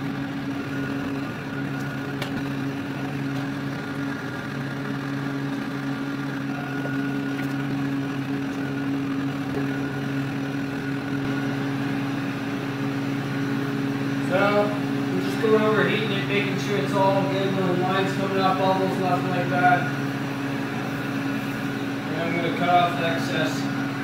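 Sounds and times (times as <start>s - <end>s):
heat gun humming: 0.0s - 24.0s.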